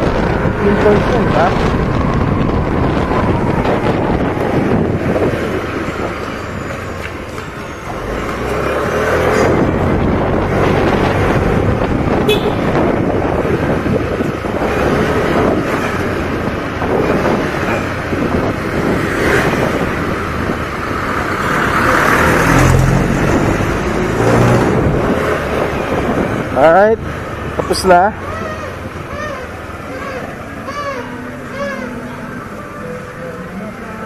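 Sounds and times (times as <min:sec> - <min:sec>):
wind rushing over microphone: 0:00.0 - 0:30.5.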